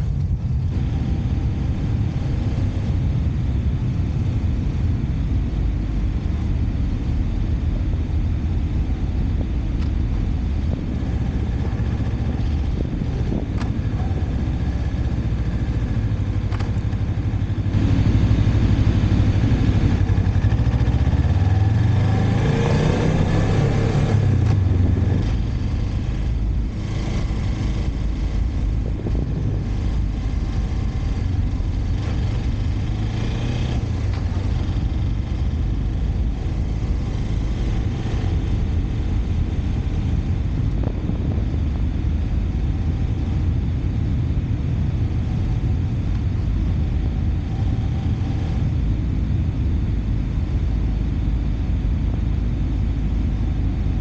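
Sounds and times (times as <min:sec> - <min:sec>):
motorcycle engine running: 0:00.0 - 0:54.0
wind rush and road noise: 0:00.0 - 0:54.0.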